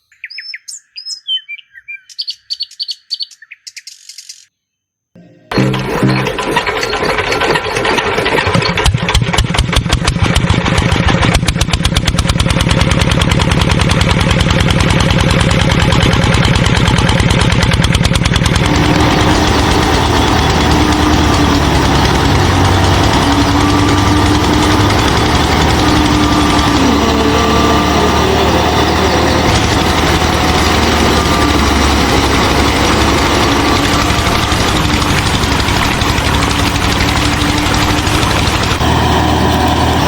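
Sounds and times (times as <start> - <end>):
small engine running: 5.5 - 40.0.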